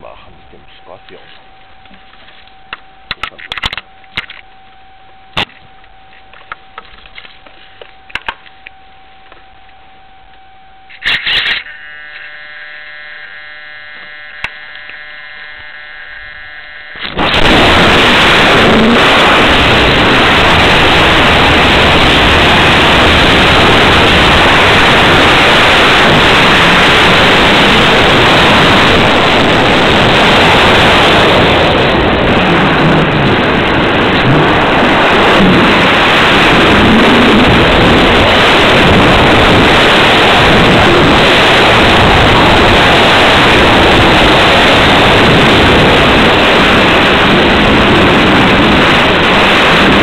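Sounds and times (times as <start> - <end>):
airflow over microphone: 0.0 - 50.0
model airplane motor whine: 1.4 - 50.0.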